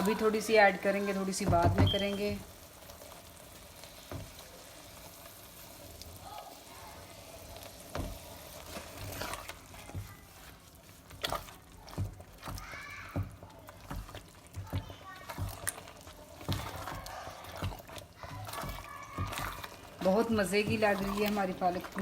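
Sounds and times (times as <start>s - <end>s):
soft sizzle in a pan: 0.0s - 22.0s.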